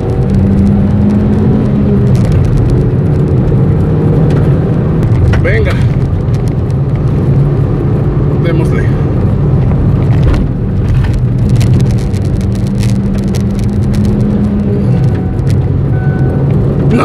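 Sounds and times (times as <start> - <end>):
car engine pulling hard: 0.0 - 17.0.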